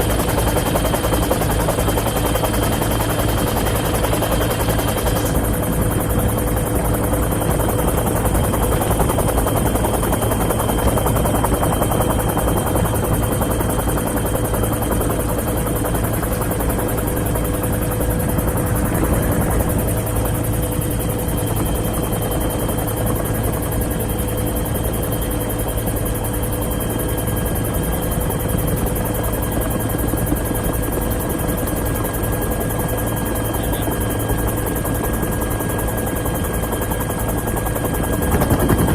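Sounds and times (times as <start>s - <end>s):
helicopter drone: 0.0s - 38.9s
thin steady whine: 0.0s - 38.9s.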